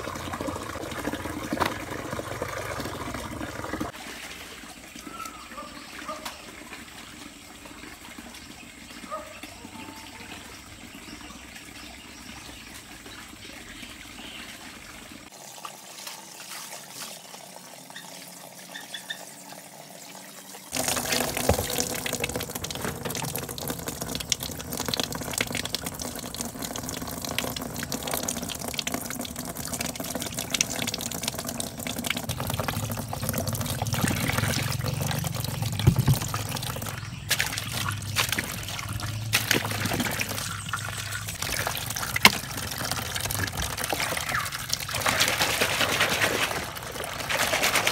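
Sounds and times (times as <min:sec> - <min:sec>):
tap water running into basin: 0:00.0 - 0:47.9.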